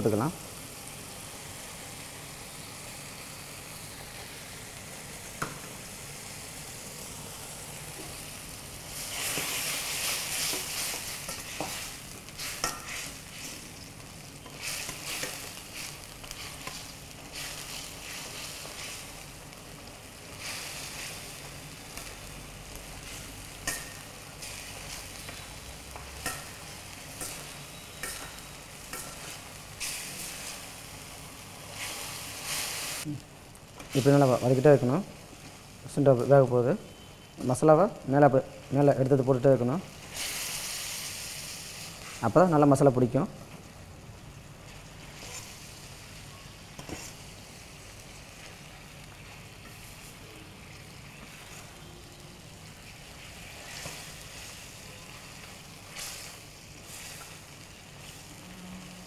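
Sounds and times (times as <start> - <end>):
chicken sizzling in a pan: 0.1 - 36.5, 37.8 - 43.2, 44.4 - 59.0.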